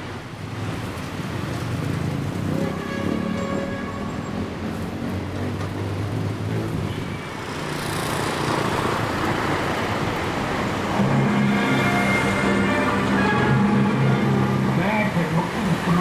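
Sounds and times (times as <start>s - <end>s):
busy road traffic: 0.0s - 16.0s.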